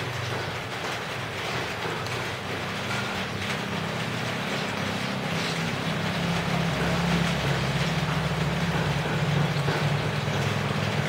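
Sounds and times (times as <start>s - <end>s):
rain falling: 0.0s - 11.0s
vehicle engine humming: 0.0s - 11.0s.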